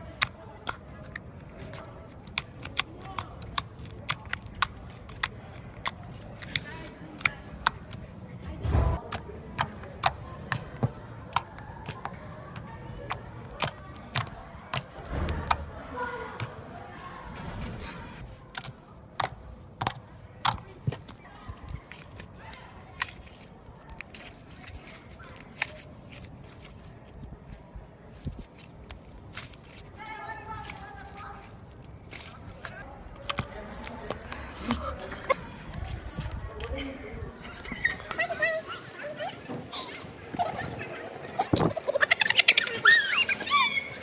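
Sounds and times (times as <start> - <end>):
slime squelches: 0.0 - 8.2, 9.0 - 36.4.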